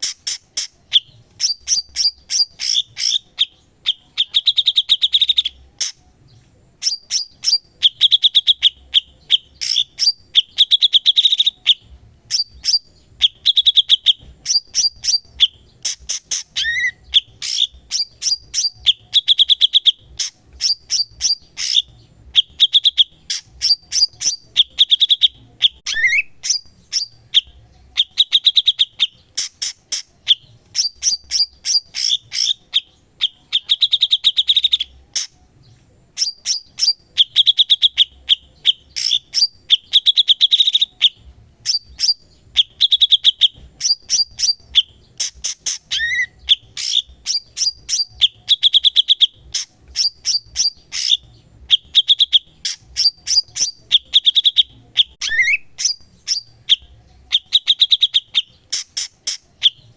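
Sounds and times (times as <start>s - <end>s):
bird chirps and trills: 0.0s - 59.9s.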